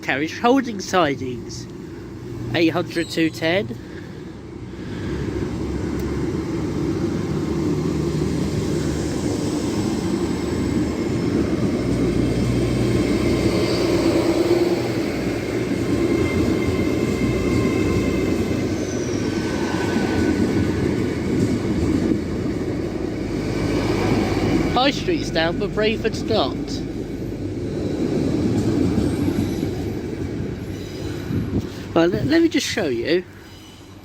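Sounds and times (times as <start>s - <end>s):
train engine and wheel rumble: 0.0s - 34.0s.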